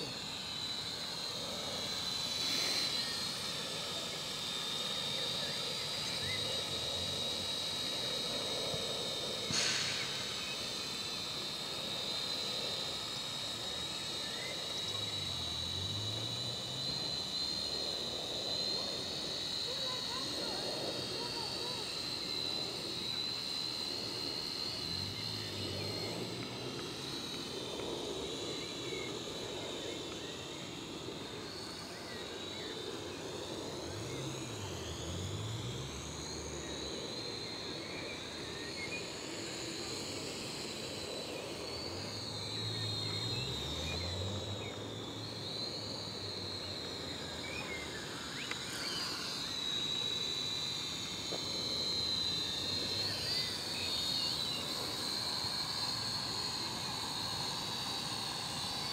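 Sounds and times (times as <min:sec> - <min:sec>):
toy drone motors whining: 0:00.0 - 0:58.9.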